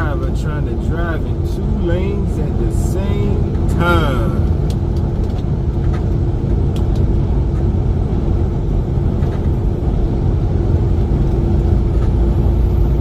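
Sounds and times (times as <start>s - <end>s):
constant hum: 0.0s - 13.0s
truck engine and road rumble: 0.0s - 13.0s.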